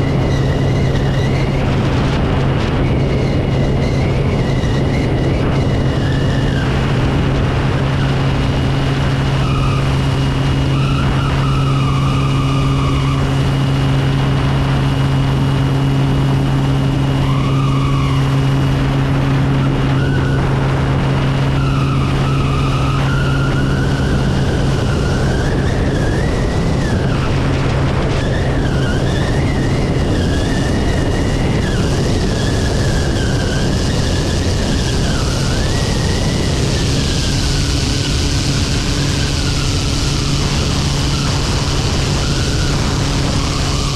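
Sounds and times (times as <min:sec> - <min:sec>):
high turbine whine: 0:00.0 - 0:43.9
propeller engine drone: 0:00.0 - 0:43.9
wind rush on microphone: 0:00.0 - 0:43.9.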